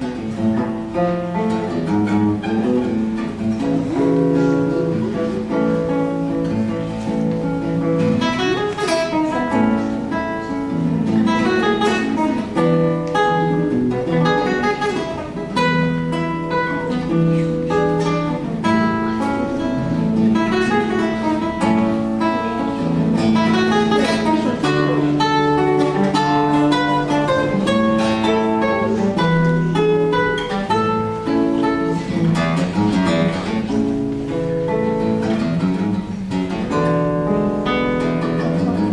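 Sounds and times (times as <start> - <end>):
acoustic guitar playing: 0.0 - 38.9.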